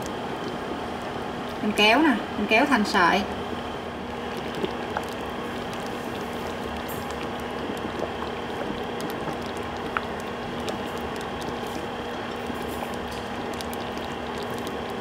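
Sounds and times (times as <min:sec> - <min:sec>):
soup boiling with pops: 0:00.0 - 0:01.6, 0:03.9 - 0:15.0
faint steady hum: 0:00.0 - 0:15.0.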